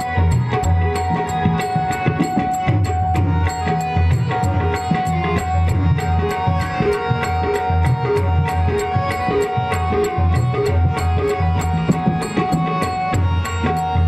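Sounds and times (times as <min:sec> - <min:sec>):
tabla bass strokes: 0:00.0 - 0:14.0.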